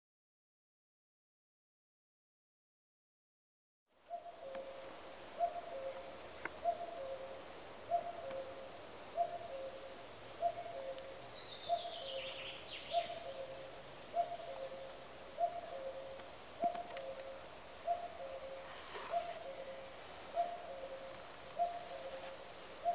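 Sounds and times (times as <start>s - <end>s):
cuckoo calling: 4.1s - 22.9s
small bird singing: 4.1s - 22.9s.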